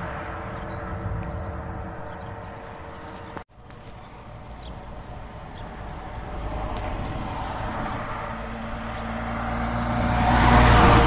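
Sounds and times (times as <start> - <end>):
steady engine hum: 0.0 - 11.0
truck engine and tyre noise: 0.0 - 11.0.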